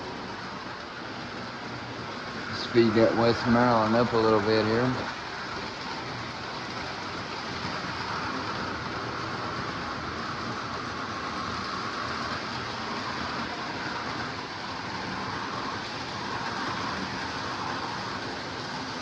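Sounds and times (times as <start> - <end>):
toy trains rumbling and humming: 0.0 - 19.0.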